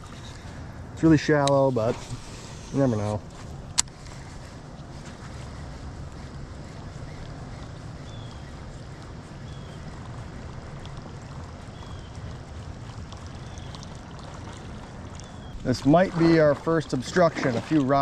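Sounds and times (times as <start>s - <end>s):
water moving around kayak: 0.0s - 18.0s.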